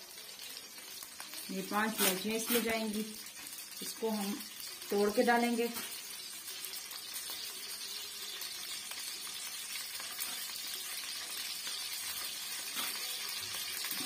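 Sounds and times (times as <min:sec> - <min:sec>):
fat sizzling in a pan: 0:00.0 - 0:14.0.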